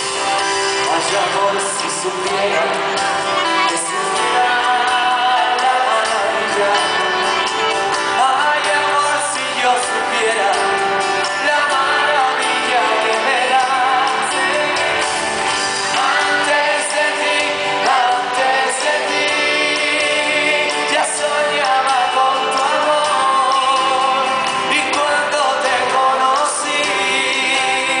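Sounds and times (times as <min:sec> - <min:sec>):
person singing: 0:00.0 - 0:28.0
strummed guitars: 0:00.0 - 0:28.0.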